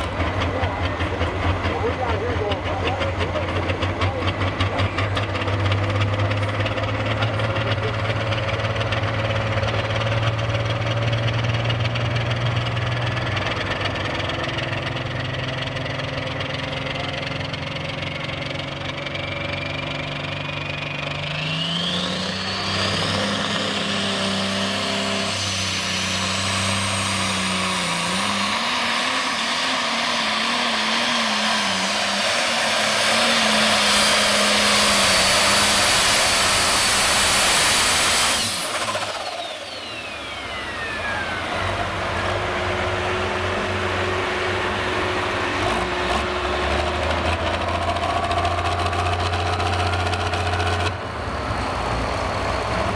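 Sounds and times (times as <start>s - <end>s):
tractor engine revving: 0.0s - 52.9s.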